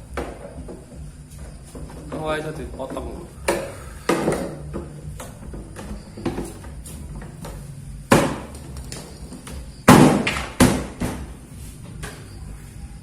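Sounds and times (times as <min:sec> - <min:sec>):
hard parts knocking and clattering: 0:01.7 - 0:12.3.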